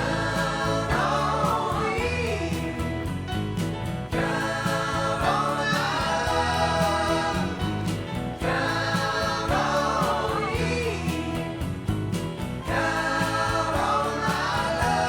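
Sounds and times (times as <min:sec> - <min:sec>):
song with vocals and beat: 0:00.0 - 0:03.2, 0:04.1 - 0:11.9, 0:12.6 - 0:15.0.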